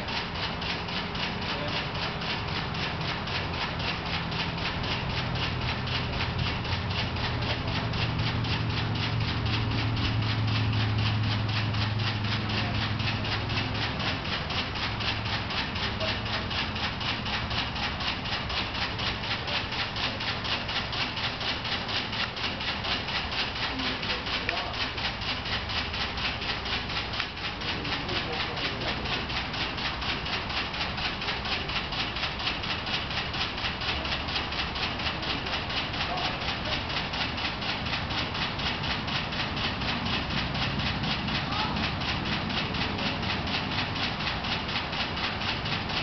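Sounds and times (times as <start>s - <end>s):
low motor hum: 0.0s - 46.0s
motor fast clicking: 0.0s - 46.0s.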